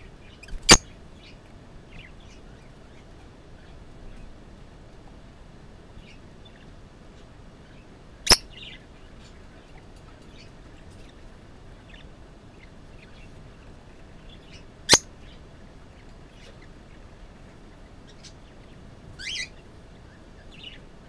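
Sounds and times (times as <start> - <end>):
budgerigar chirping faintly: 0.0 - 4.3, 7.6 - 20.9.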